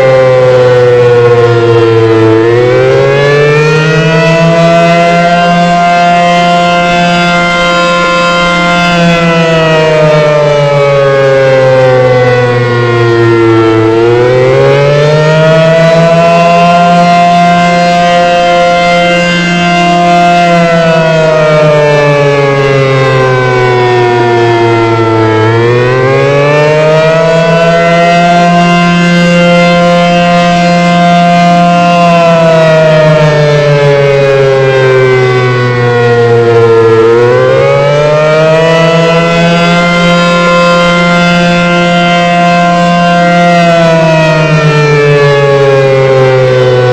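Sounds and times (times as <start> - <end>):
warning siren wailing: 0.0 - 46.9.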